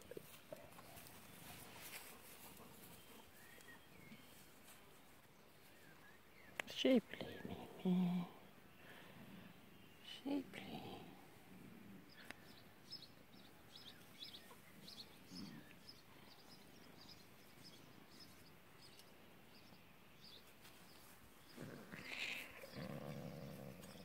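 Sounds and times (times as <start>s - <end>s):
rustle: 0.0s - 9.6s, 10.5s - 24.0s.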